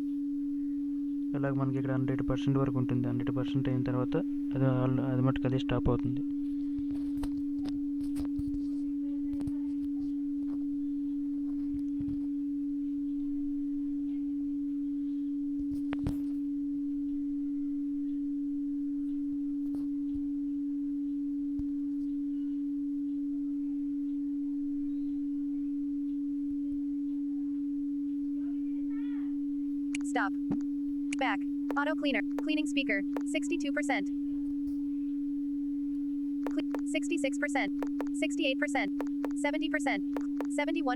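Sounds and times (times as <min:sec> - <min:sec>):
steady low sine tone: 0:00.0 - 0:40.9.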